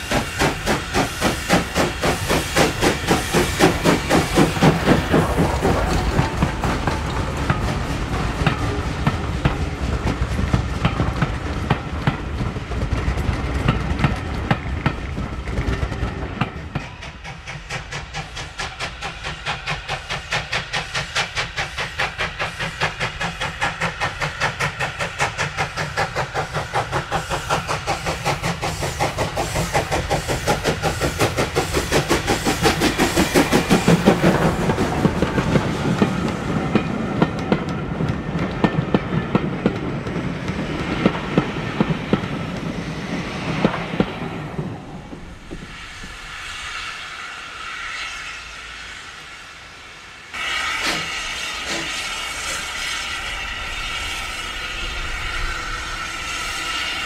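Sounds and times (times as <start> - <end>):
train wheels clicking over rail joints: 0.0 - 46.4
passing train rumble: 0.0 - 57.0
steam locomotive exhaust beats: 0.0 - 57.0.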